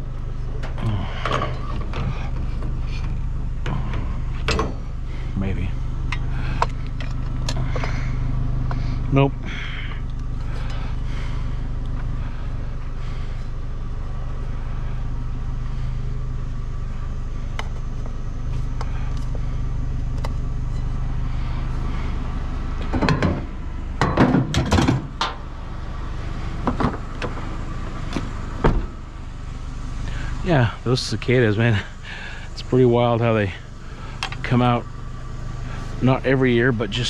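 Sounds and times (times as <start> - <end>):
cicadas droning: 0.0 - 37.0
vehicle engine idling: 0.0 - 37.0.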